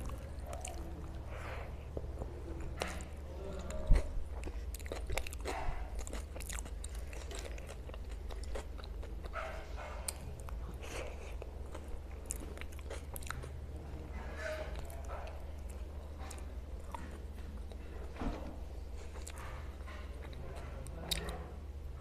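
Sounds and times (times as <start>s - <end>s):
low steady hum: 0.0s - 22.0s
person chewing with wet mouth sounds: 0.0s - 22.0s.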